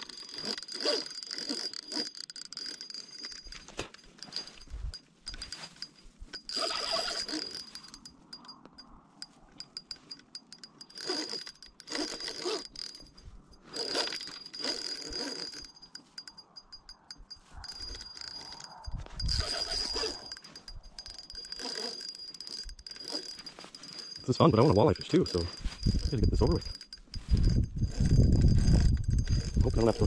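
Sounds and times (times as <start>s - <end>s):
fishing reel fast metallic ticking: 0.0s - 30.0s
reel winding noise: 0.0s - 30.0s.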